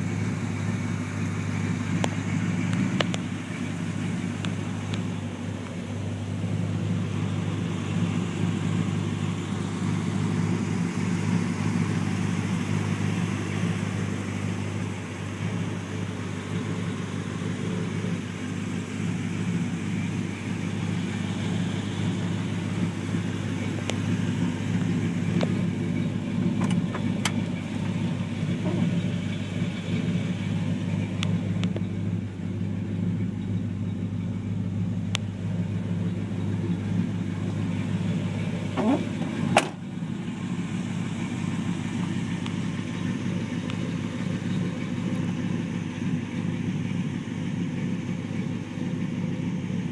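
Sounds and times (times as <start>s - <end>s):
pickup engine idling: 0.0s - 49.9s.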